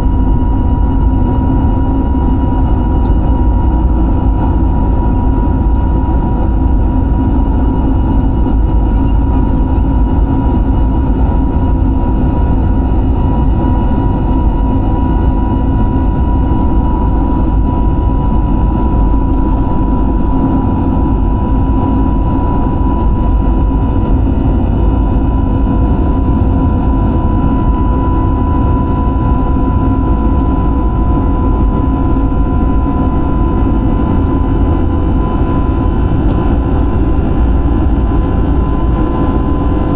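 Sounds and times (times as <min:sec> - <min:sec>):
airliner engines rumbling: 0:00.0 - 0:39.9
high engine whine: 0:00.0 - 0:39.9.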